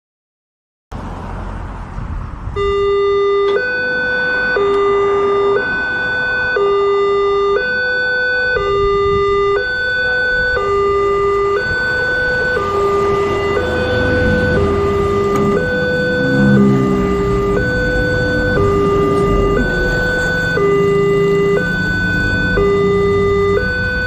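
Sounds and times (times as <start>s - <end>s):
two-tone warning siren: 2.6s - 24.0s.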